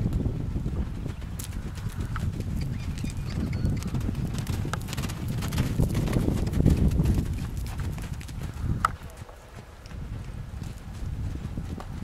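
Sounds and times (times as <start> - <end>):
horse hoofbeats on soft dirt: 0.0 - 12.0.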